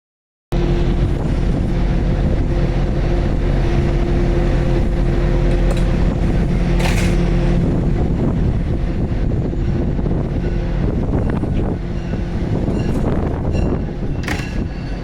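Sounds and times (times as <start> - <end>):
diesel locomotive engine drone: 0.5 - 15.0.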